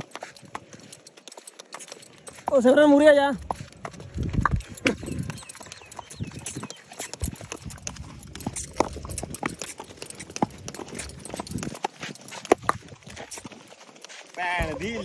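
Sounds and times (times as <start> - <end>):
horse hooves on dirt path: 0.0 - 15.0.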